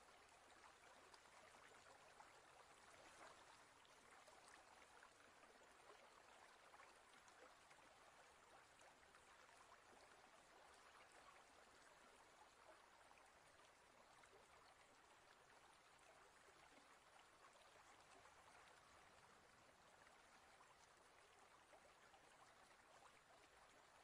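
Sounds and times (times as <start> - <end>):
aquarium water trickling and bubbling: 0.0 - 24.0.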